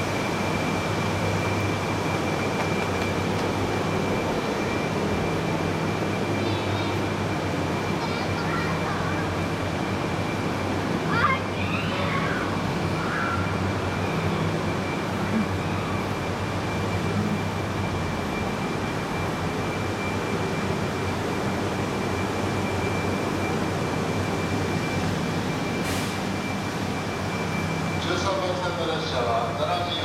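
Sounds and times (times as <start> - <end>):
stationary train humming: 0.0 - 30.0.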